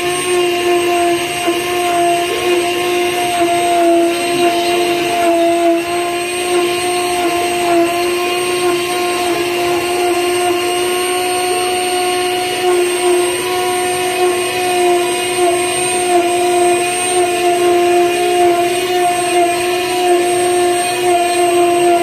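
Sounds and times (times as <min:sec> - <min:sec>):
bit rasping into wood: 0:00.0 - 0:22.0
router spindle whining: 0:00.0 - 0:22.0.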